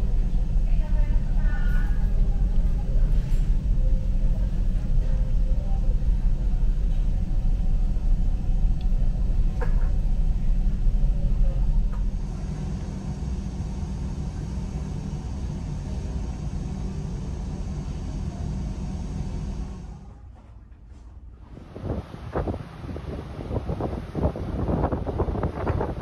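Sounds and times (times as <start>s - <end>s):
ferry engine rumble: 0.0s - 26.0s.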